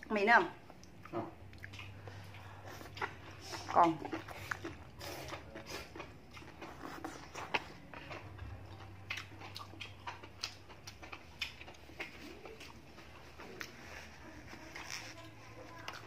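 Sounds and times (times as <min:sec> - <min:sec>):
person chewing noodles: 0:00.0 - 0:16.0
steady low hum: 0:00.0 - 0:16.0.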